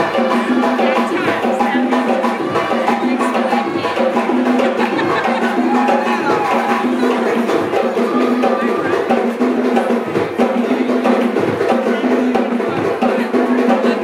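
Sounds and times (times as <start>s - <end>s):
live band playing amplified music: 0.0s - 14.0s.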